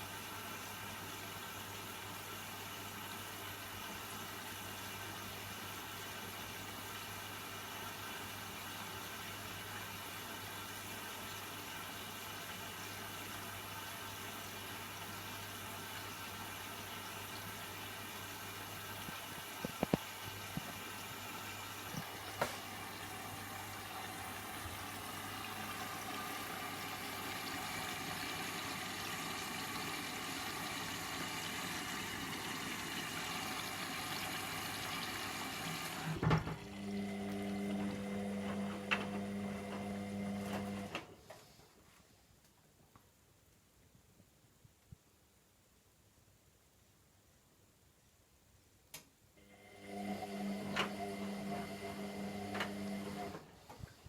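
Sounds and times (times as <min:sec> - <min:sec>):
washing machine water running: 0:00.0 - 0:41.1, 0:49.4 - 0:53.6.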